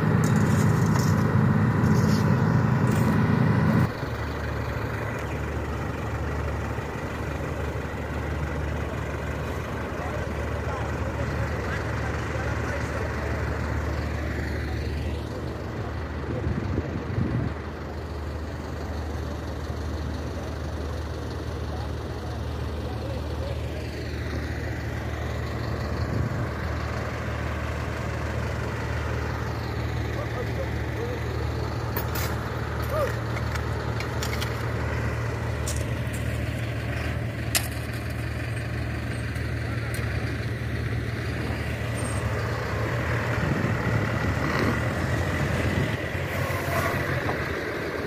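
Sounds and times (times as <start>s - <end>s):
low rumbles: 0.0s - 21.7s, 22.5s - 48.0s
engine humming: 0.0s - 48.0s.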